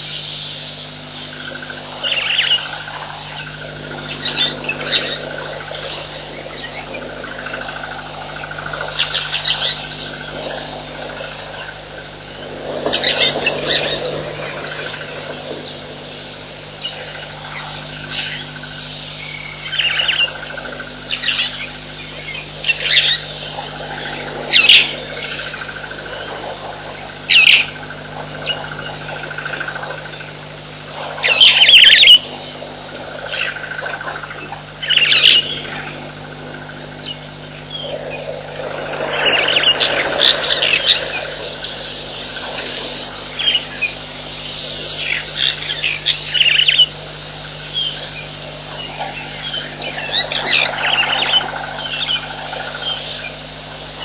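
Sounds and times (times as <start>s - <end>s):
steady low hum: 0.0s - 54.0s
wild birds chirping and calling: 0.0s - 54.0s.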